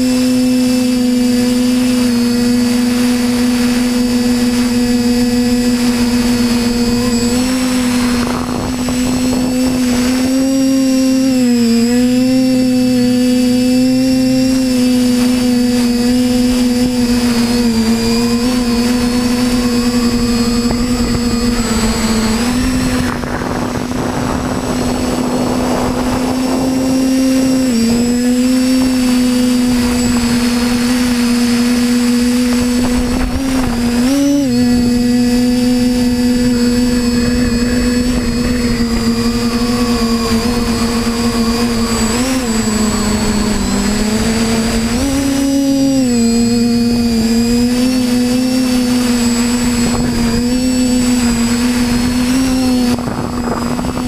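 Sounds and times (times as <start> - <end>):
drone motors humming: 0.0 - 54.0
rushing wind-like noise: 0.0 - 54.0.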